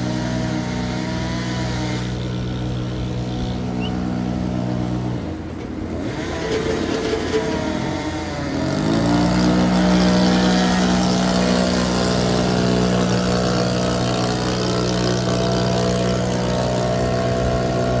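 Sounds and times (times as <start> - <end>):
engine revving: 0.0 - 18.0.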